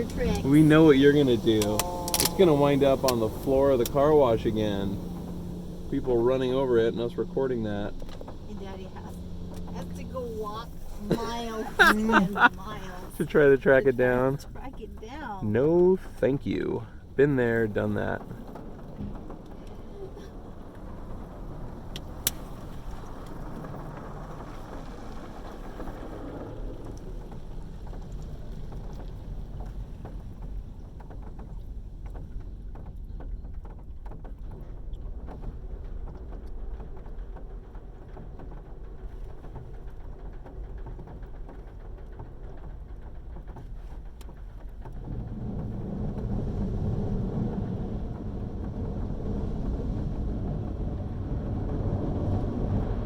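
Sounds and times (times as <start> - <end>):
low rumble: 0.0 - 53.0
water spray drumming on car: 0.0 - 53.0.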